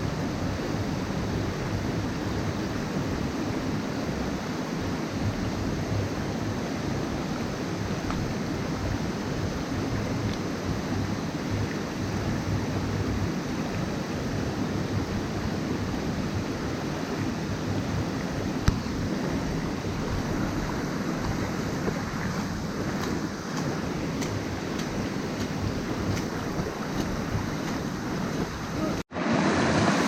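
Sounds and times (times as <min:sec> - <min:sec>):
flowing river water: 0:00.0 - 0:30.0.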